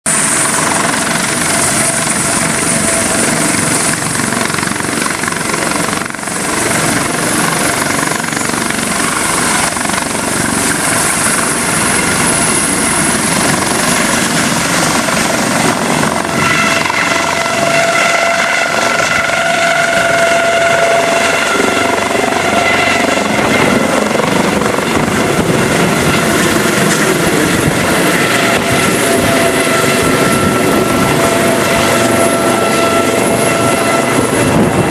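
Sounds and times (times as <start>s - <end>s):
helicopter turbine whine and rotor: 0.0s - 34.9s.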